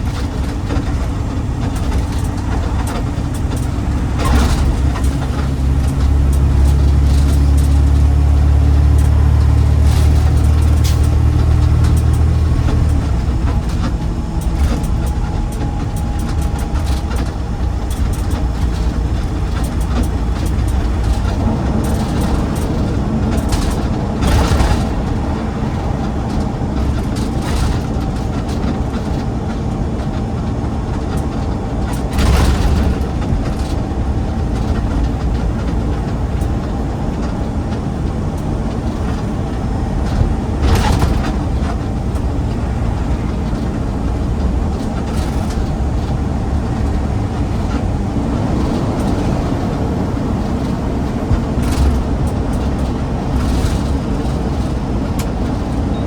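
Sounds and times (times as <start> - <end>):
garbage truck rumbling: 0.0 - 56.0
knocks and rattles: 0.0 - 56.0.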